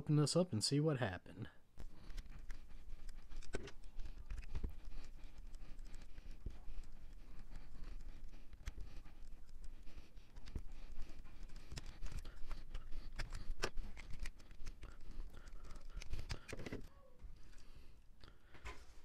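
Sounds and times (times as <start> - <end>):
plastic clicks and scratching: 1.8 - 17.7.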